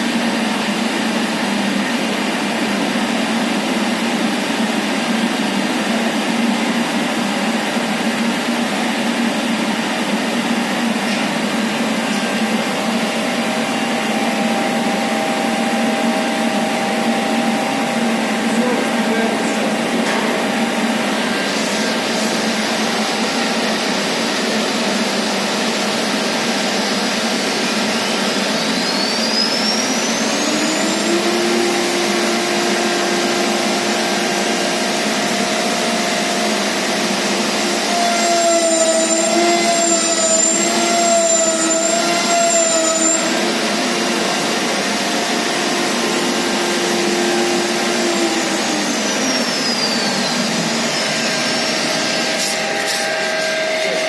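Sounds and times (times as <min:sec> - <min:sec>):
falling whine: 0:00.0 - 0:54.0
spindle whine and hum: 0:00.0 - 0:54.0
milling router rushing noise: 0:00.1 - 0:54.0.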